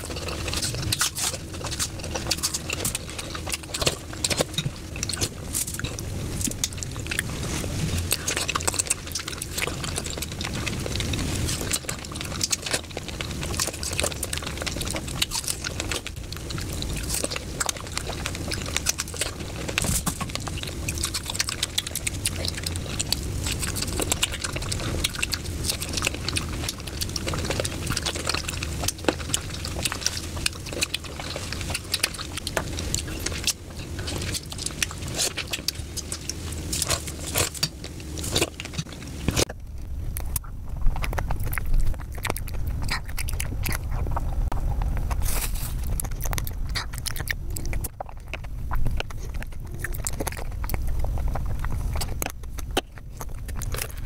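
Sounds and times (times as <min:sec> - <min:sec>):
crisp apple bites and crunching: 0:00.0 - 0:54.0
wet juicy chewing: 0:00.0 - 0:54.0.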